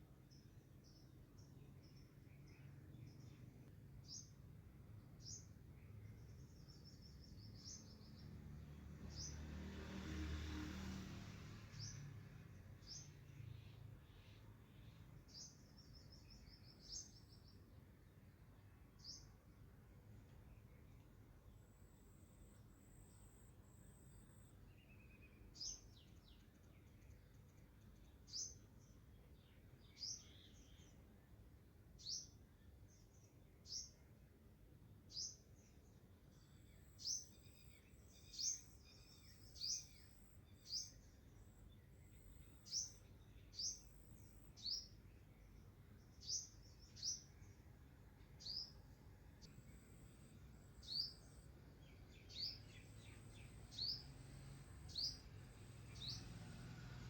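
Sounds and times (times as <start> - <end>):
bird chirping: 0.2 - 9.6, 11.7 - 17.8, 18.6 - 19.4, 20.1 - 31.3, 32.0 - 34.1, 35.1 - 56.8
faint background hiss: 11.1 - 57.0.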